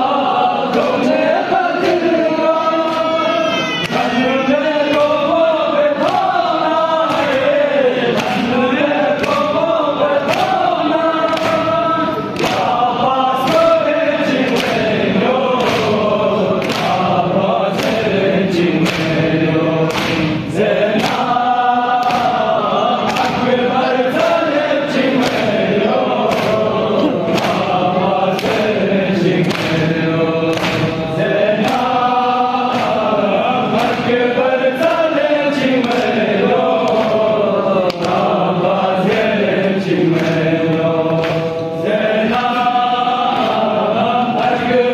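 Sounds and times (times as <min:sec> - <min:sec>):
men chanting together: 0:00.0 - 0:44.9
hands slapping chests: 0:04.8 - 0:44.8.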